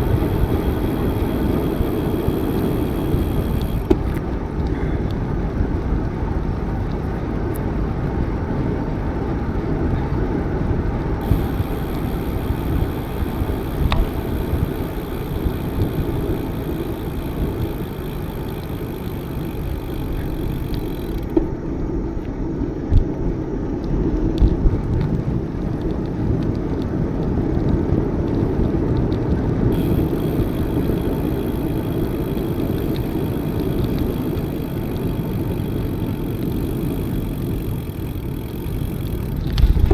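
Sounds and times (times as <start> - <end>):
bicycle tyres rolling: 0.0 - 21.7, 22.9 - 39.9.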